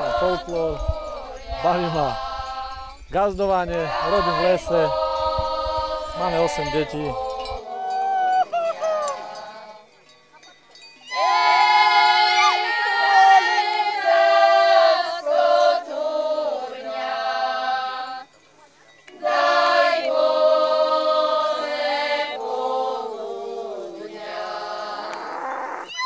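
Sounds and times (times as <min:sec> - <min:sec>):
women singing folk song: 0:00.0 - 0:10.1, 0:11.0 - 0:26.0.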